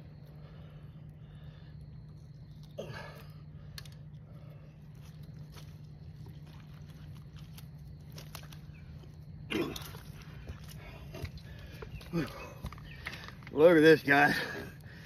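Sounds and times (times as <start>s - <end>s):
steady low hum: 0.0s - 15.0s
crunching and scraping handling: 1.4s - 15.0s.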